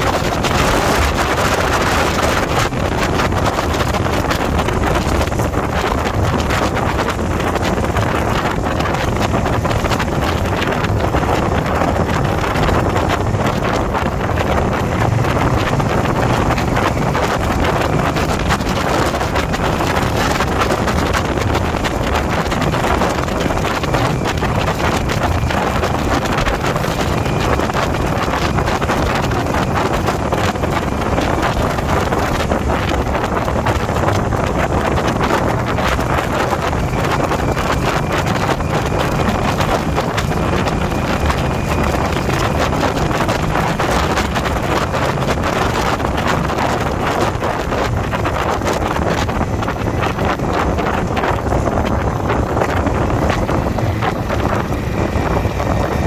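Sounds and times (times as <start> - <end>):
motorcycle engine drone: 0.0 - 56.0
wind rush on microphone: 0.0 - 56.0.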